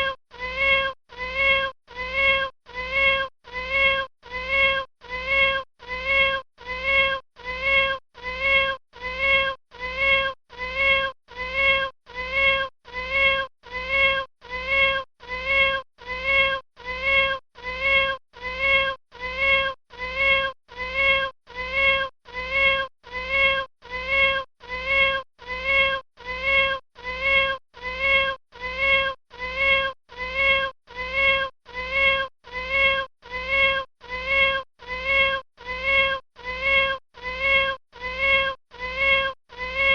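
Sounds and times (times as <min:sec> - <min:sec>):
kitten meowing: 0:00.0 - 0:39.9.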